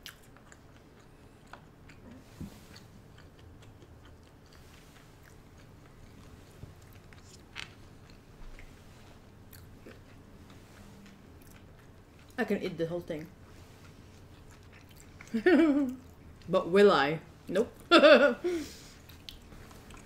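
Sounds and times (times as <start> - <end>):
chewing and mouth sounds: 0.0 - 12.5, 13.1 - 16.5, 19.0 - 20.0.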